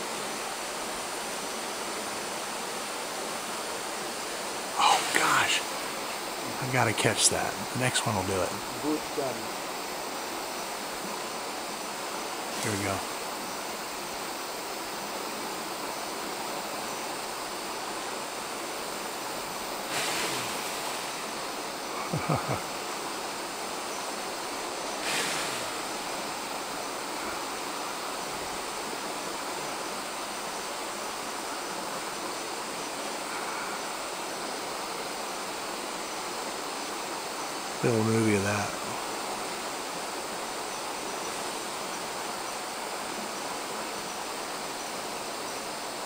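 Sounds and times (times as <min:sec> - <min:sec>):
rainforest rushing noise: 0:00.0 - 0:46.0.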